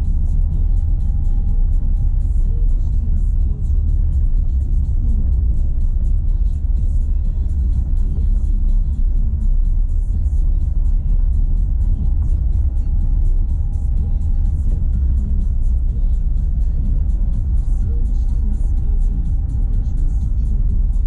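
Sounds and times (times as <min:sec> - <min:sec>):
tyres rumbling on dirt road: 0:00.0 - 0:21.0.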